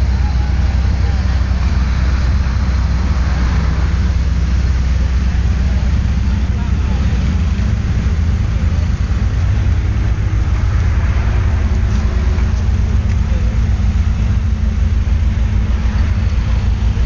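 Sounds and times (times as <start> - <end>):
car engines idling: 0.0 - 17.0
faint voices: 0.0 - 17.0.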